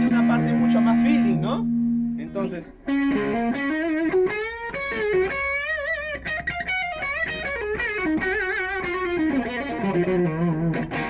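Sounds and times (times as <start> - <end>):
electric guitar lead melody: 0.0 - 11.0.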